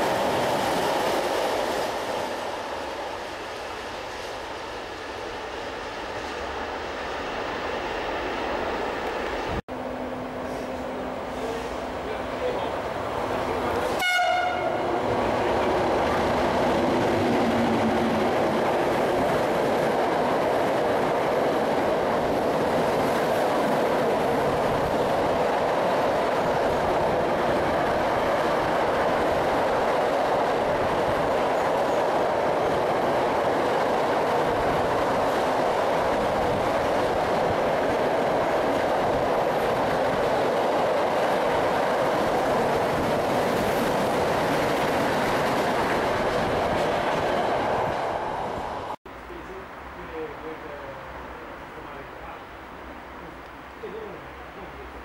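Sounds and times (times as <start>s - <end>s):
freight train rumbling past: 0.0s - 53.1s.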